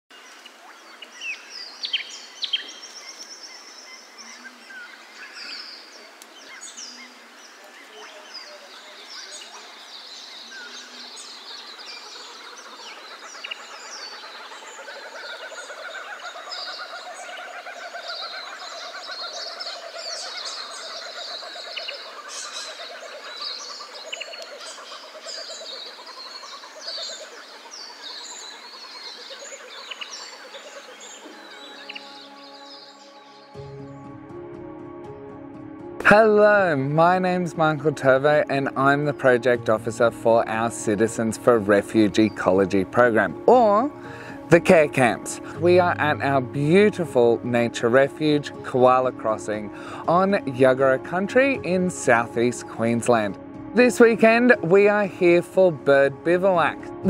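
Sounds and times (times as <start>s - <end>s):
loud sharp bird calls: 0.2s - 33.8s, 41.7s - 55.6s
birds chirping and whistling: 0.2s - 34.1s, 36.6s - 57.0s.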